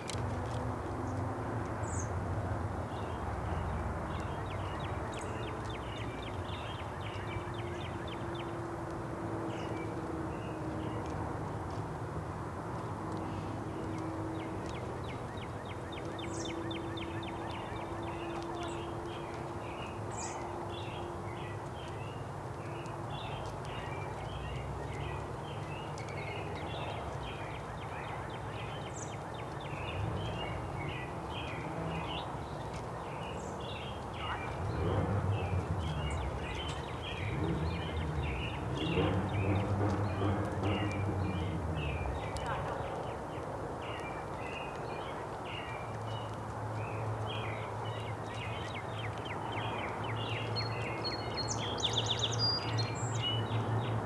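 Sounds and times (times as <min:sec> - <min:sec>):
small songbirds chirping: 0:00.0 - 0:12.1, 0:12.7 - 0:54.0.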